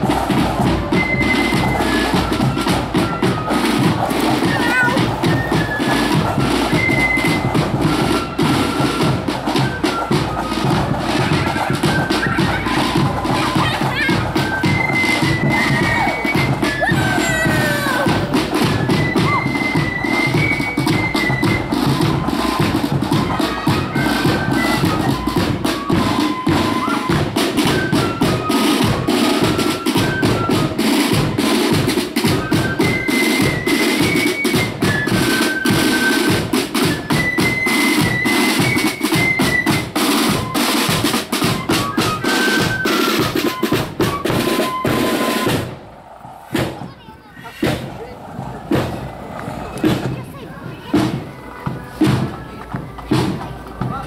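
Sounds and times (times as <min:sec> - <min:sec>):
flutes playing a tune: 0:00.0 - 0:46.6, 0:48.4 - 0:54.0
rapid snare drum rolls: 0:00.0 - 0:54.0.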